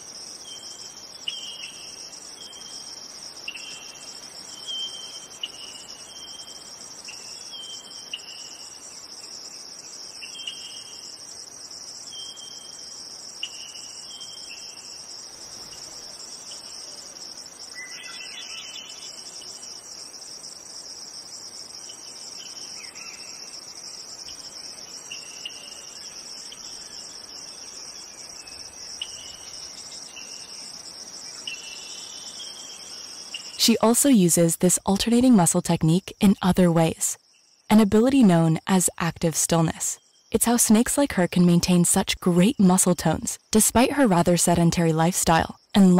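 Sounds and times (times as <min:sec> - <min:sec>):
high-pitched insect chorus: 0:00.0 - 0:33.6, 0:37.1 - 0:37.7, 0:38.5 - 0:45.7.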